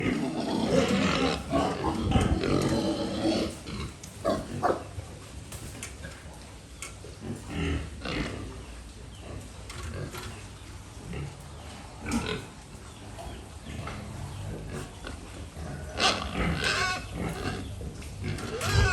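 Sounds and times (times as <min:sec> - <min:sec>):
pigs calling: 0:00.0 - 0:05.0, 0:07.1 - 0:18.9.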